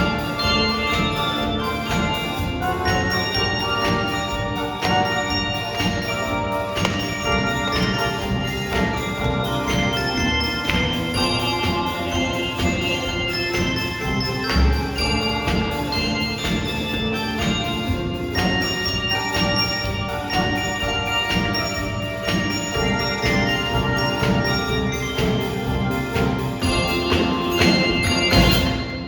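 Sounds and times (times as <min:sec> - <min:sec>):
handbell choir playing: 0:00.0 - 0:29.0.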